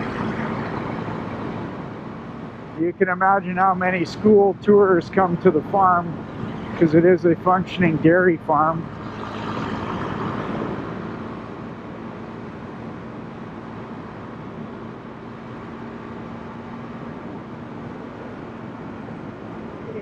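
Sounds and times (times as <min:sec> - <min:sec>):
vehicle road and engine noise: 0:00.0 - 0:20.0.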